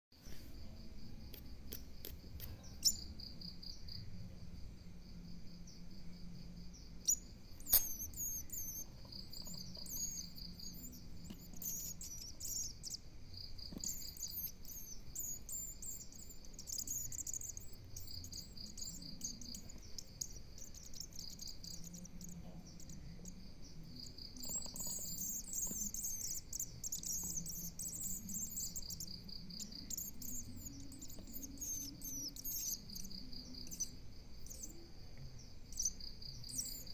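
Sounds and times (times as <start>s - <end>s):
nestlings begging chirps: 1.2s - 4.1s, 5.7s - 36.9s.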